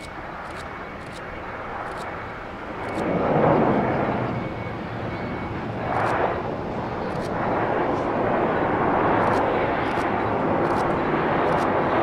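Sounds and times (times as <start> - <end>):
turboprop plane rolling on runway: 0.0 - 12.0.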